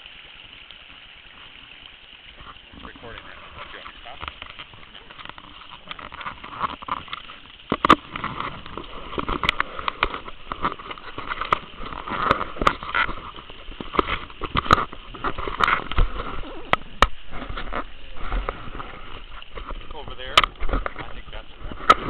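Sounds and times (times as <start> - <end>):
steady hiss: 0.0 - 22.0
rustling through brush: 2.4 - 22.0.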